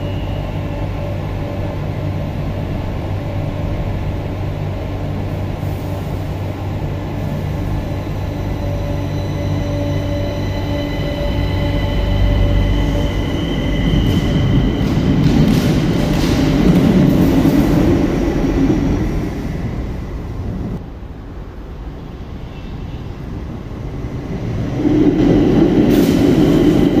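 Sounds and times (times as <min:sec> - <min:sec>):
electric train low hum: 0:00.0 - 0:22.4, 0:23.0 - 0:27.0.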